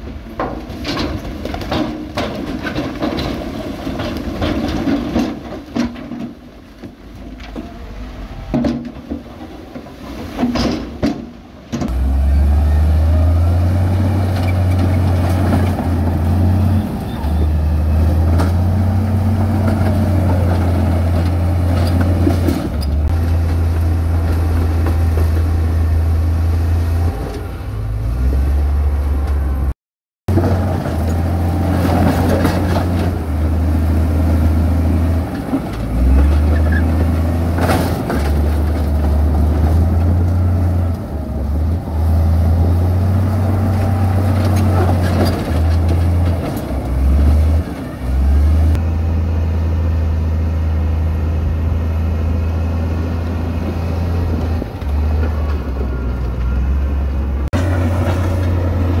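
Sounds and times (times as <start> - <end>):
diesel machinery engine rumble: 0.0 - 59.0.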